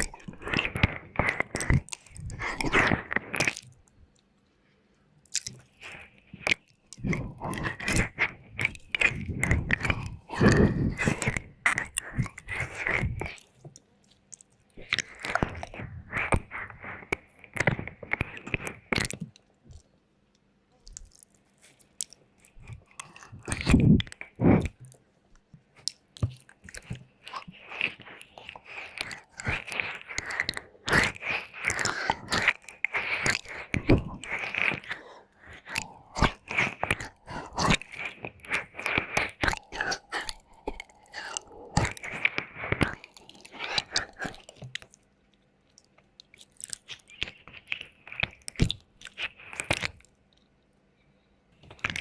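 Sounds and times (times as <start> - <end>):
wet mouth clicks and licking: 0.0 - 4.3, 5.2 - 19.9, 20.8 - 50.5, 51.6 - 52.0.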